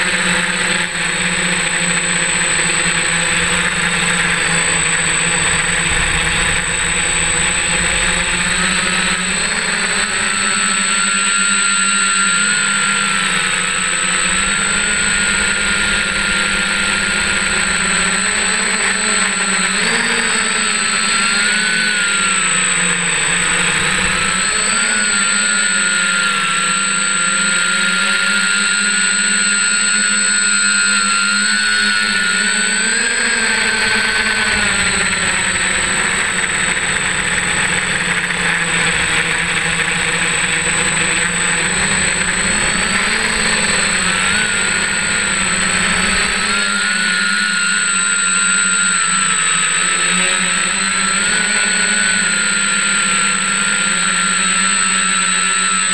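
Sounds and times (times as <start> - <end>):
drone propellers droning: 0.0 - 55.9
high motor whine: 0.0 - 55.9.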